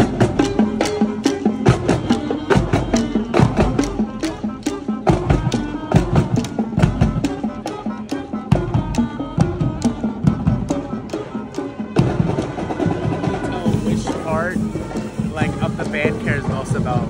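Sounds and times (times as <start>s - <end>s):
brass holding notes: 0.0s - 17.0s
drumline beat: 0.0s - 17.0s.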